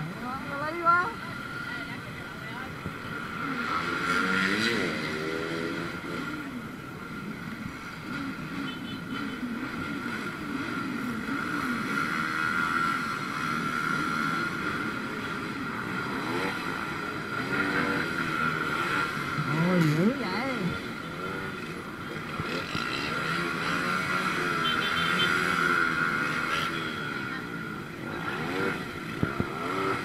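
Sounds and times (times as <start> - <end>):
motorbike engines revving: 0.0 - 30.0.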